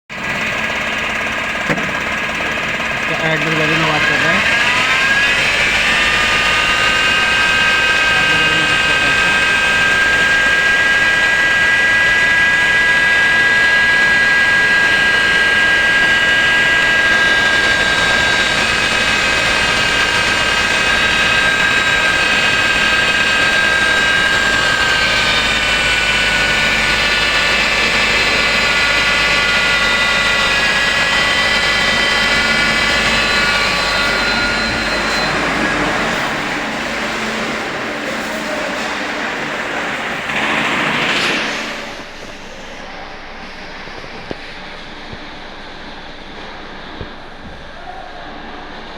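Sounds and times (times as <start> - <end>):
engine idling with high whine: 0.1 - 48.9.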